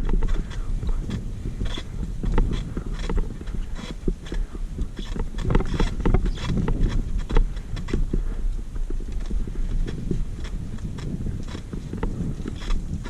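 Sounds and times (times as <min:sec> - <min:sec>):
bike clicks and rattles: 0:00.0 - 0:13.0
wind on microphone: 0:00.0 - 0:13.0.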